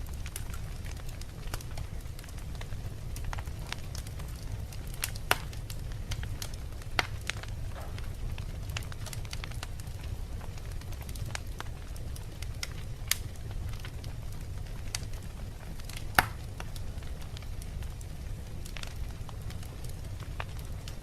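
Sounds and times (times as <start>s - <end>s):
fire rumbling in fireplace: 0.0s - 21.0s
logs crackling: 0.0s - 21.0s
sharp pops of burning wood: 0.1s - 21.0s.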